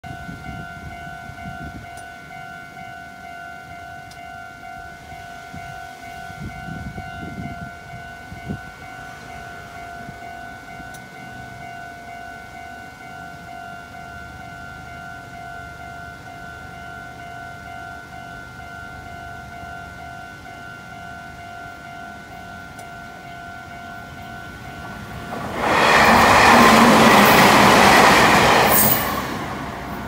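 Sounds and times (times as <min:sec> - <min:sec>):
level crossing warning bell: 0:00.0 - 0:30.0.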